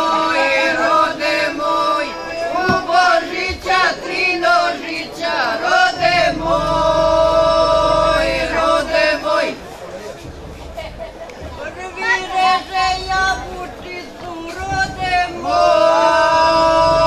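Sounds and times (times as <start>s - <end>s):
women singing unaccompanied: 0.0s - 9.7s, 11.4s - 17.0s.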